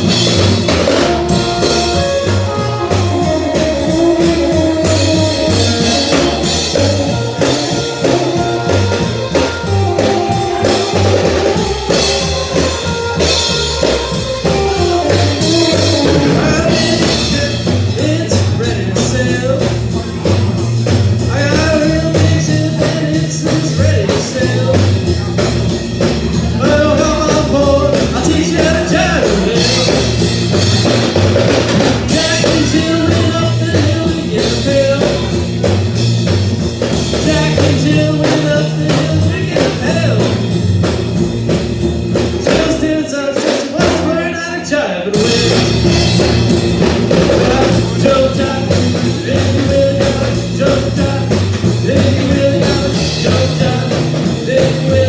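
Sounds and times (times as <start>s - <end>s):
live band playing swing: 0.0s - 55.0s.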